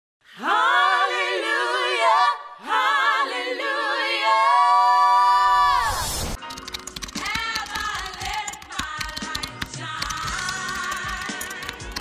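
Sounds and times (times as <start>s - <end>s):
women singing a cappella: 0.2s - 6.0s, 7.2s - 12.0s.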